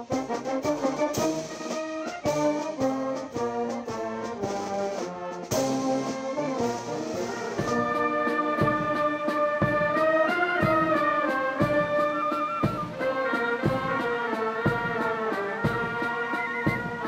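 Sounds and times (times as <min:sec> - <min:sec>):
brass band playing slow march: 0:00.0 - 0:17.0
drum beat: 0:00.0 - 0:17.0.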